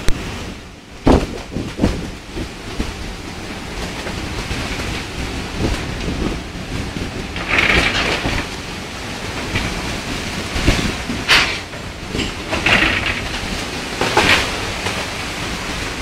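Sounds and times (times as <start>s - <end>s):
sea rumble and hiss: 0.0s - 16.0s
wind buffeting microphone: 0.0s - 16.0s.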